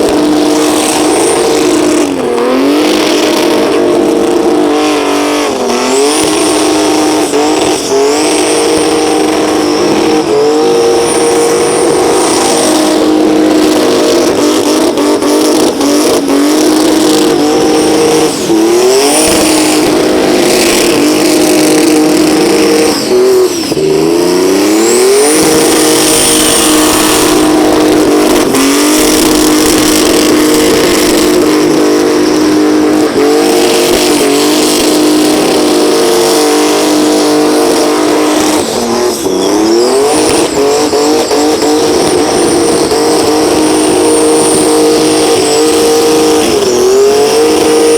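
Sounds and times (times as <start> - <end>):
car engine at high revs: 0.0 - 47.9
tyres spinning and squealing: 0.0 - 47.9.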